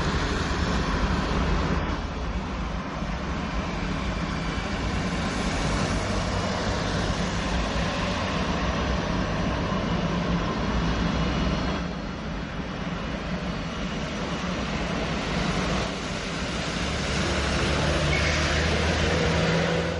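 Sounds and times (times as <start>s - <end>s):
jet engine roar: 0.0s - 19.9s.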